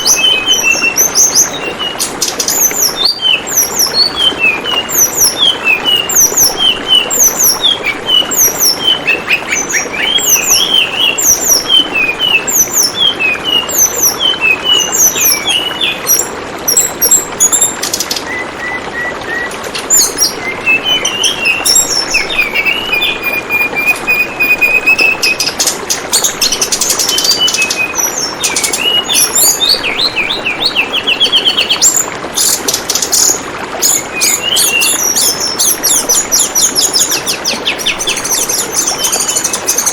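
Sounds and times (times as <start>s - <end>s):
bird chirping and trilling: 0.0s - 39.9s
water trickling: 0.0s - 39.9s.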